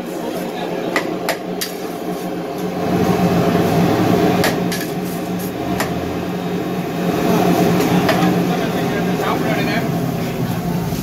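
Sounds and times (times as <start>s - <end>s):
gas burner noise: 0.0s - 11.0s.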